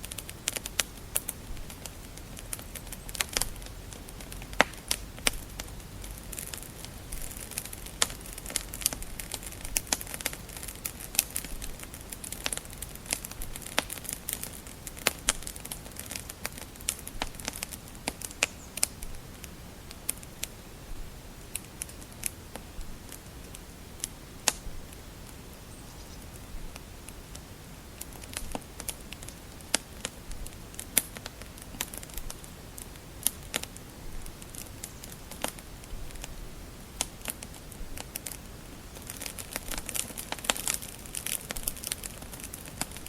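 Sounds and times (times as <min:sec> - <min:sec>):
low rumble of flames: 0:00.0 - 0:43.0
wood fire crackling: 0:00.0 - 0:43.0.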